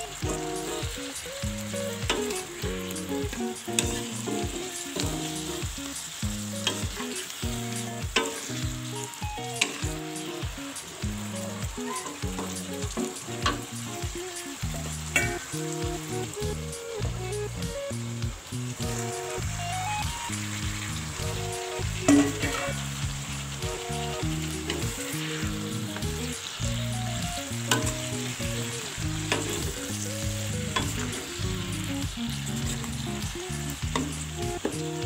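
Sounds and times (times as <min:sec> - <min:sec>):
chicken sizzling in a wok: 0:00.0 - 0:35.0.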